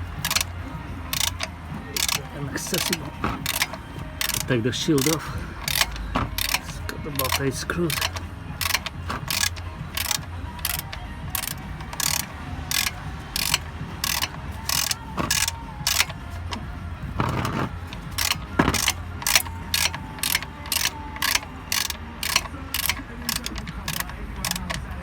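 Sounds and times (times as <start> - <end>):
ratchet wrench clicking: 0.0 - 25.0
steady low hum: 0.0 - 25.0.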